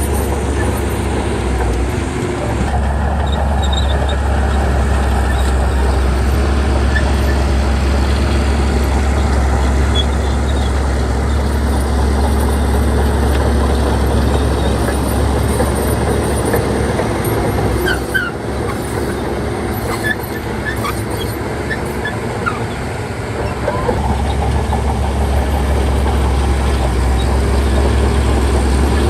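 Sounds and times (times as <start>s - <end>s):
diesel machinery rumbling: 0.0s - 29.0s.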